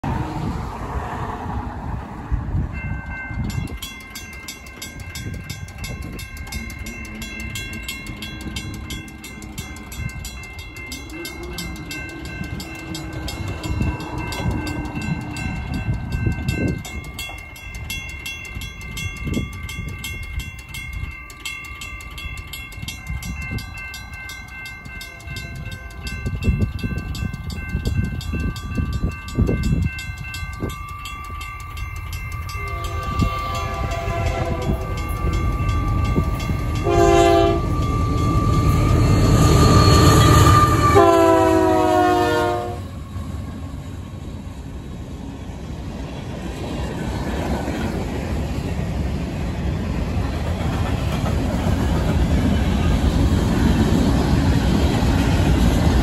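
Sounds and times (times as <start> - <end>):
crossing bells ringing: 2.4 - 44.7, 46.1 - 56.0.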